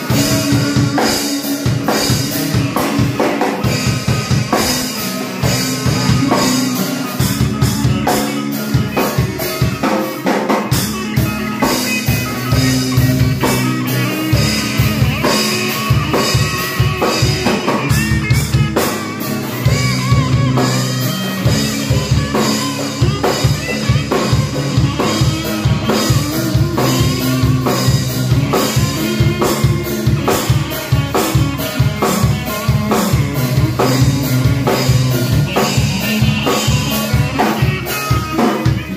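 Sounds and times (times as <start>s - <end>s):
drum kit rock rhythm: 0.0s - 38.9s
electric guitar: 0.0s - 38.9s.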